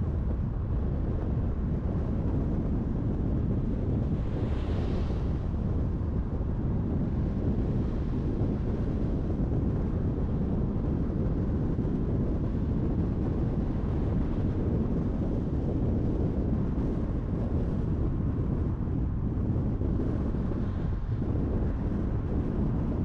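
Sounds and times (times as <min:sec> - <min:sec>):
car road and wind noise: 0:00.0 - 0:23.0.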